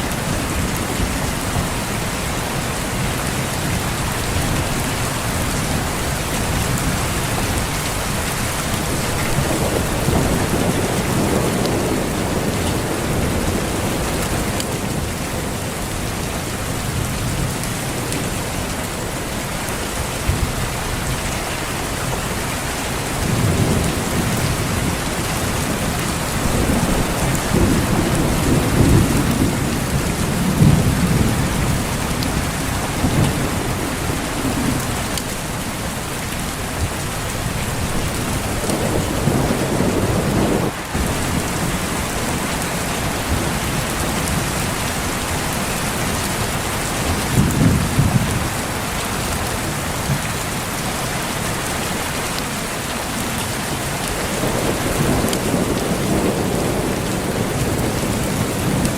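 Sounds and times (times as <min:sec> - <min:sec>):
heavy rain falling: 0:00.0 - 0:58.9
thunder rumbling: 0:02.5 - 0:19.0, 0:22.9 - 0:50.3, 0:54.1 - 0:58.9.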